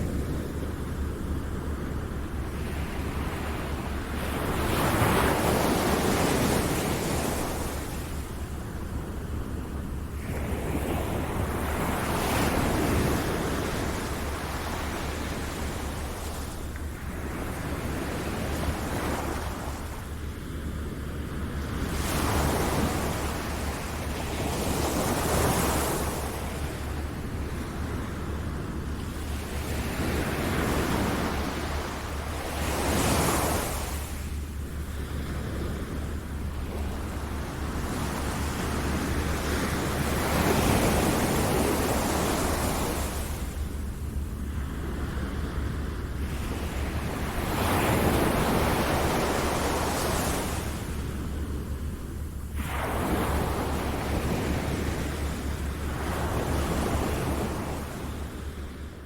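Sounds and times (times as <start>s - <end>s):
ocean waves washing in: 0.0s - 59.0s
low steady rumble: 5.6s - 59.0s.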